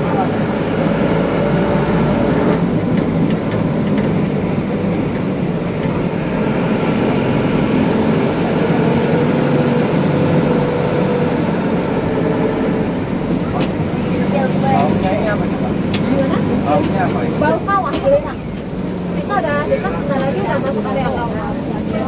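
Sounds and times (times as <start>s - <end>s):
bus engine running: 0.0s - 22.0s
road noise: 0.0s - 22.0s.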